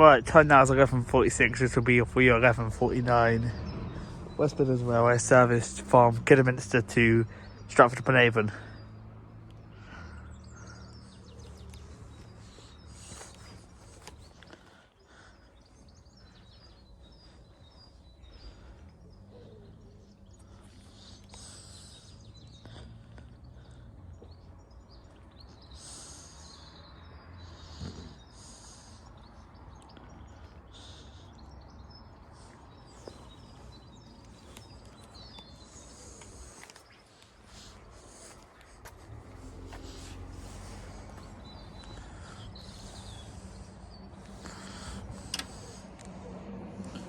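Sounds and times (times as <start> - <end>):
low outdoor rumble: 0.0 - 25.1, 28.4 - 47.0
small birds chirping: 0.0 - 47.0.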